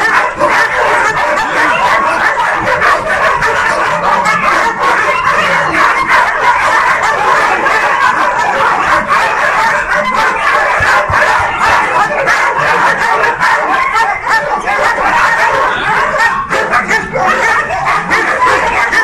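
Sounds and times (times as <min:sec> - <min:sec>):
many dogs barking: 0:00.0 - 0:19.0.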